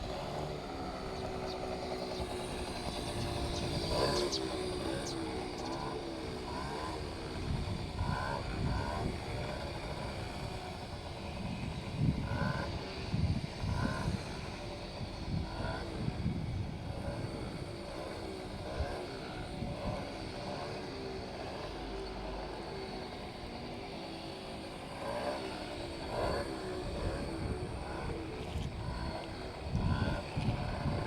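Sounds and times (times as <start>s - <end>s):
small motorcycle engine revving: 0.0s - 31.0s.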